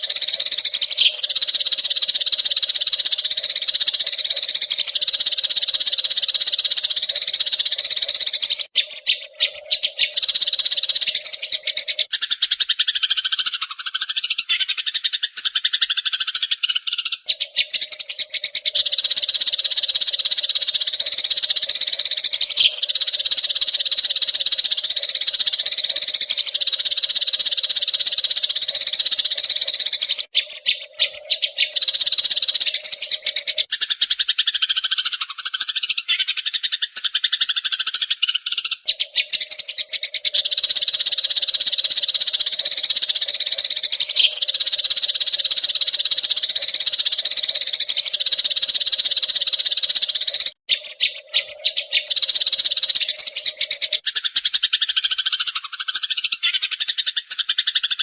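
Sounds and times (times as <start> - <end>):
sparrows chattering: 0.0 - 58.0.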